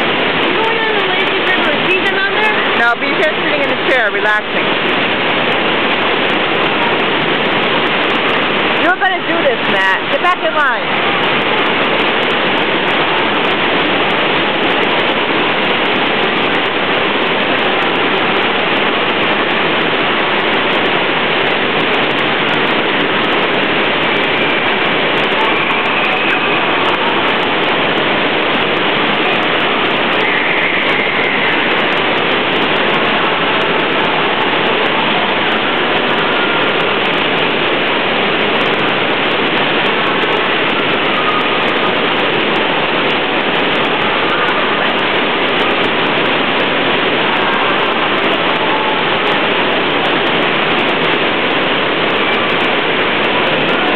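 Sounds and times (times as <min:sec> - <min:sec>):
water rushing over surf ride: 0:00.0 - 0:53.9.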